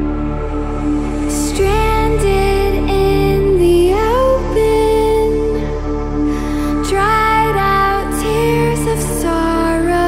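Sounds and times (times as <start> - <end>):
slow music with low drone: 0.0 - 10.0.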